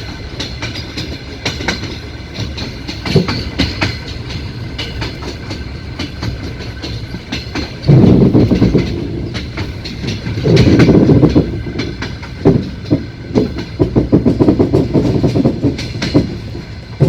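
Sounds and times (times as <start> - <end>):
train wheels rumbling on track: 0.0 - 17.0
clicks over rail joints: 0.4 - 17.0.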